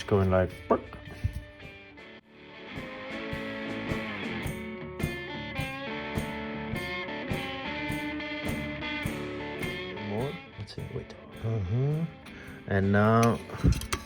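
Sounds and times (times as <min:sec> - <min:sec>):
guitar over steady beat: 0:00.0 - 0:14.0.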